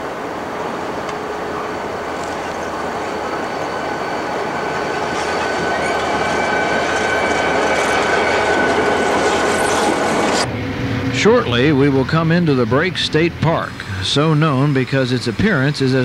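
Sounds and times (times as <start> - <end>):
diesel locomotive engines rolling: 0.0 - 16.0
steady high whine: 0.0 - 16.0.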